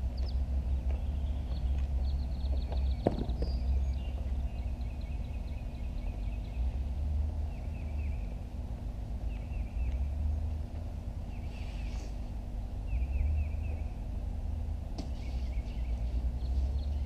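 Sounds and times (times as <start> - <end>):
songbird chirping: 0.0 - 17.0
steady low rumble: 0.0 - 17.0.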